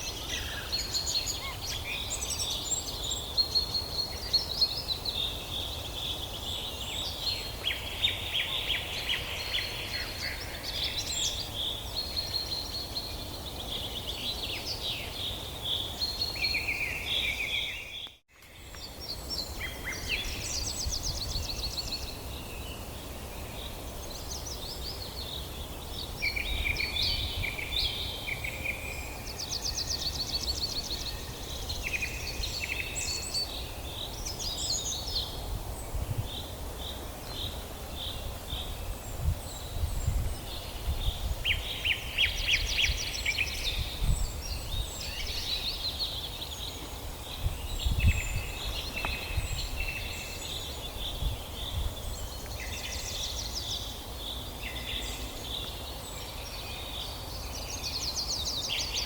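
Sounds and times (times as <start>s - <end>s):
songbirds singing and trilling: 0.0s - 59.0s.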